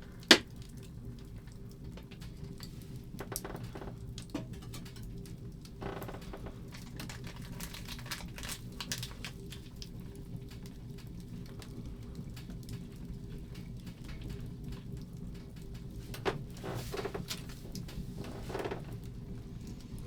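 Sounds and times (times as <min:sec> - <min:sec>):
light clicks and crackles: 0:00.0 - 0:20.0.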